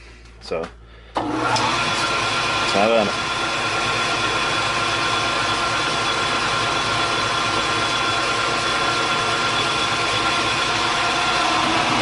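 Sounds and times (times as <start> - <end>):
metal lathe whining: 1.2 - 12.0.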